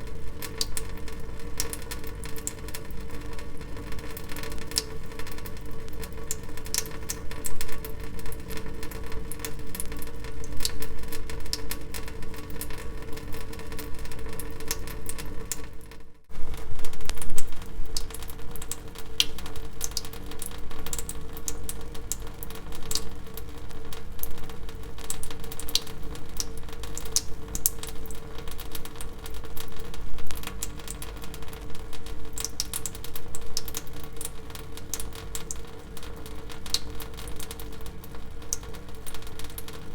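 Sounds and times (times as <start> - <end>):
water dripping: 0.0 - 15.9, 16.5 - 39.9.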